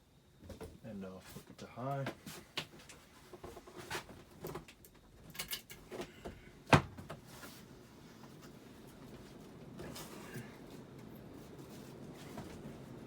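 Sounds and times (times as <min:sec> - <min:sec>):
ceiling fan running: 0:00.0 - 0:13.0.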